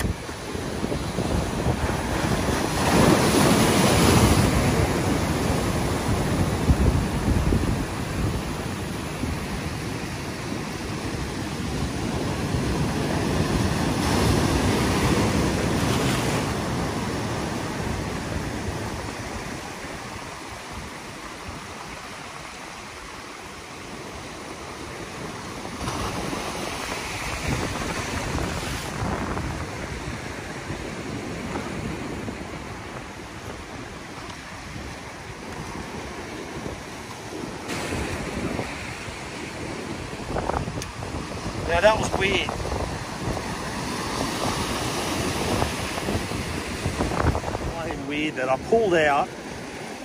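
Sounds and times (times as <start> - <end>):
wind buffeting microphone: 0.0 - 22.0, 24.0 - 50.0
ocean surf washing over rocks: 0.0 - 50.0.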